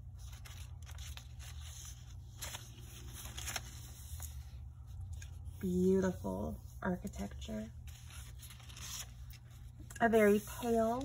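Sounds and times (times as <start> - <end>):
paper pages rustling: 0.0 - 5.7, 7.5 - 11.0.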